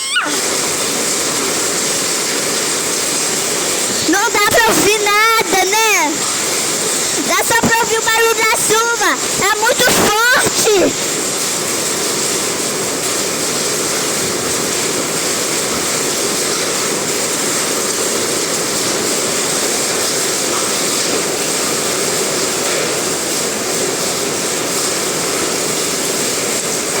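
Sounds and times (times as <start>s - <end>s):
heavy rain and hail: 0.0s - 27.0s.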